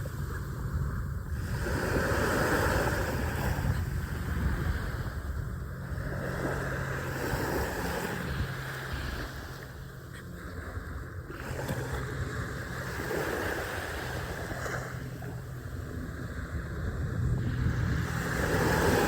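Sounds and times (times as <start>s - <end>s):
low hum: 0.0s - 19.0s
wind on microphone: 0.0s - 19.0s.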